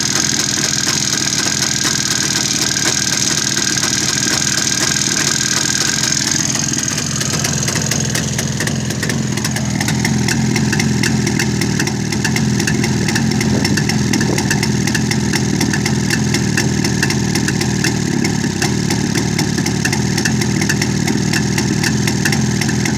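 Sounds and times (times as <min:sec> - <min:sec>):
engine idling with knock: 0:00.0 - 0:22.9.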